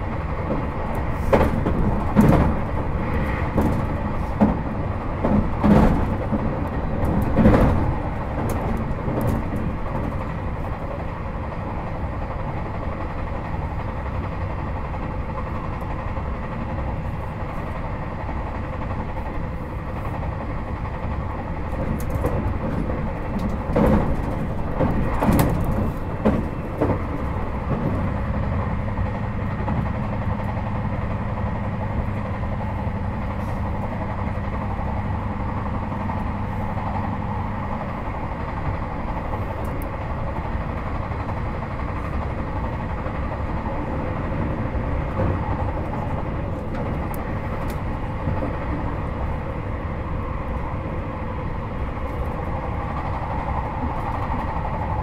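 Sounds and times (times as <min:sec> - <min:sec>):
wheels clattering on track: 0:00.0 - 0:17.6, 0:18.3 - 0:55.0
train interior rumble: 0:00.0 - 0:55.0.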